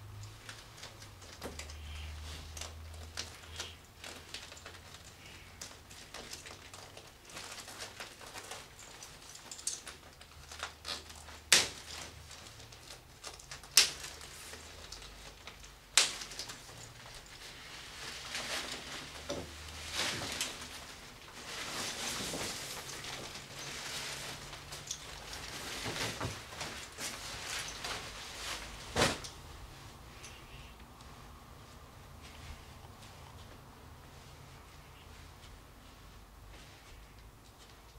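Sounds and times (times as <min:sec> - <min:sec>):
plastic raincoat rustling: 0:00.0 - 0:37.9.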